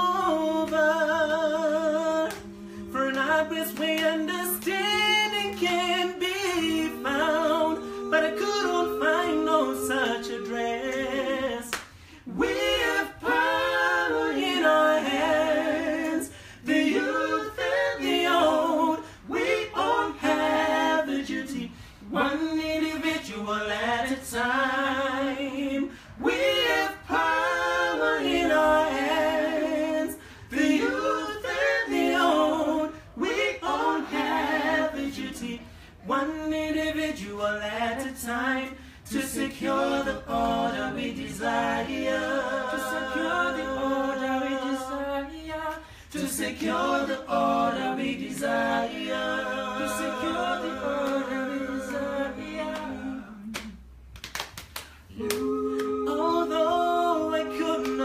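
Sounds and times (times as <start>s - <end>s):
person singing a cappella: 0.0s - 53.8s, 55.1s - 58.0s.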